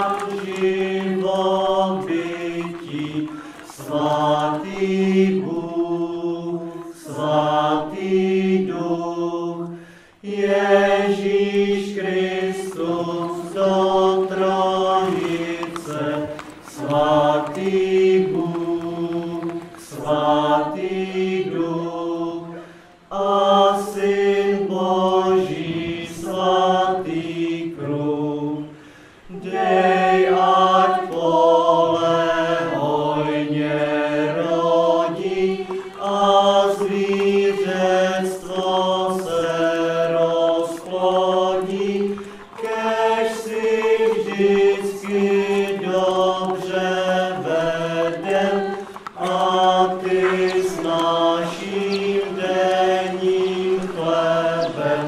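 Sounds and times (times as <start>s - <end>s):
choral chant: 0.0s - 55.0s.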